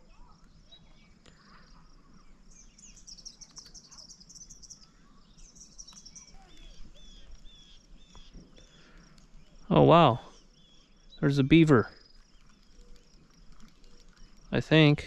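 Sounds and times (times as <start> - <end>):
high twittering bird trill: 0.0 - 15.0
short repeated bird chirps: 0.1 - 14.8.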